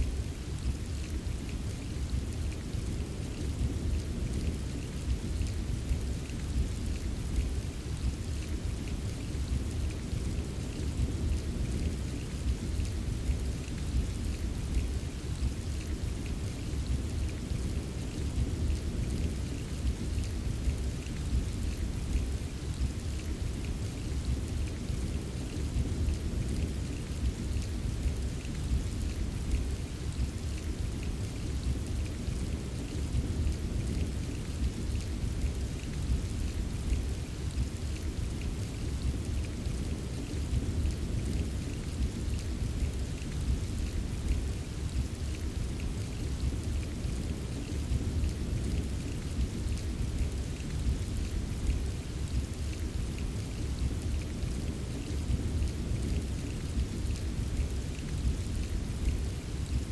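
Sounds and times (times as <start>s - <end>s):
constant low rumble: 0.0s - 59.9s
steady rainfall: 0.0s - 59.9s.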